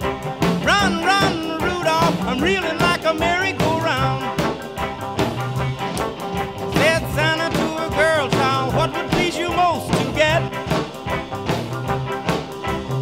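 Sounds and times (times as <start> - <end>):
upbeat rock and roll music: 0.0 - 13.0.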